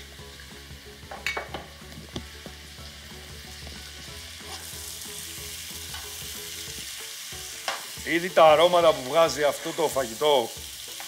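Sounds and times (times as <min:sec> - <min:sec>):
meat and onions sizzling in oil: 0:00.0 - 0:11.0.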